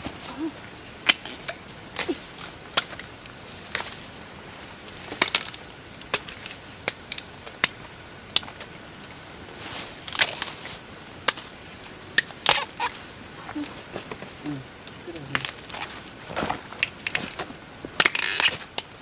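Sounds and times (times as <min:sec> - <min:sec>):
bamboo snapping and cracking: 0:00.0 - 0:04.2, 0:04.9 - 0:09.2, 0:10.0 - 0:19.0
rustling: 0:00.0 - 0:19.0.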